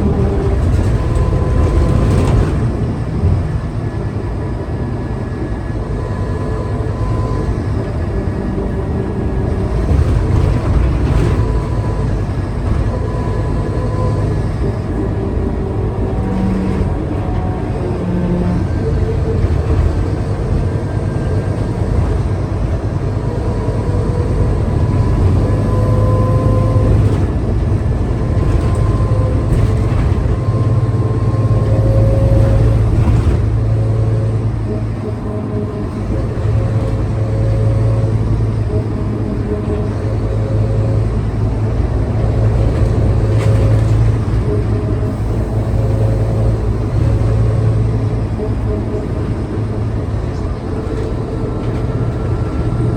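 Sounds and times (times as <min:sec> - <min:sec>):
bus engine whining: 0:00.0 - 0:52.9.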